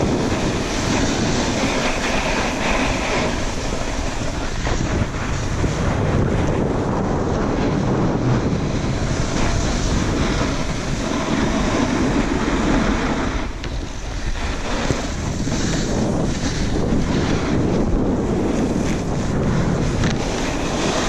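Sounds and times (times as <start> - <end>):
skis scraping over packed snow: 0.0 - 21.0
wind buffeting microphone: 0.0 - 21.0.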